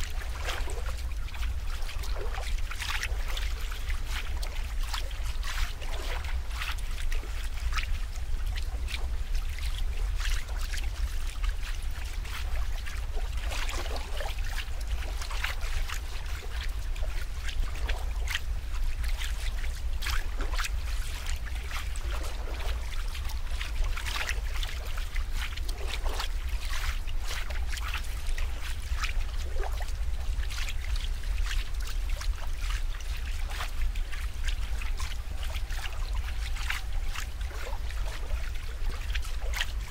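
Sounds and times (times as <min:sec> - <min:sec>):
steady low rumble: 0:00.0 - 0:39.9
water trickling and splashing: 0:00.0 - 0:39.9.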